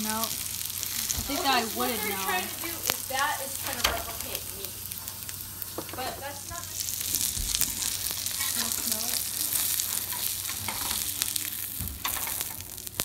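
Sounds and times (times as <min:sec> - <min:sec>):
patty sizzling in oil: 0:00.0 - 0:13.0.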